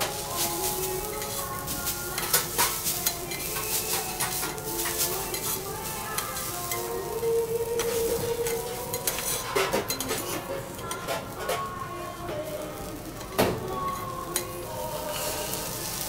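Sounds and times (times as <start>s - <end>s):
rice sizzling on a griddle: 0.0s - 16.0s.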